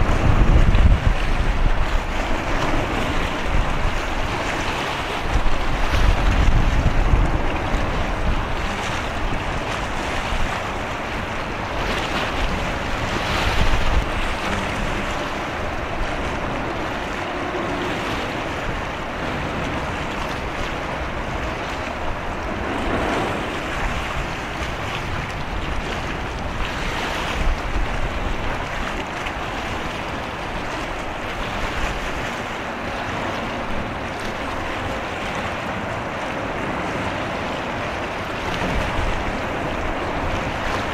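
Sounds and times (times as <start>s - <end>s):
sea and water noise: 0.0s - 40.9s
wind buffeting microphone: 0.0s - 40.9s.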